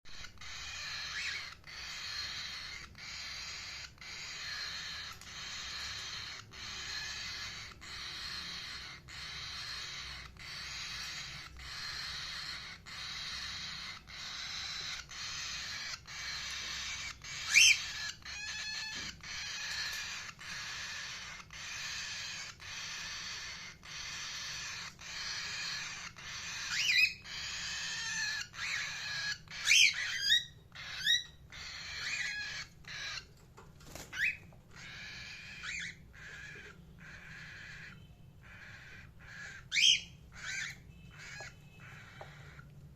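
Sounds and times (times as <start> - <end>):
parakeet screeching calls: 0.1 - 33.4, 34.0 - 42.9.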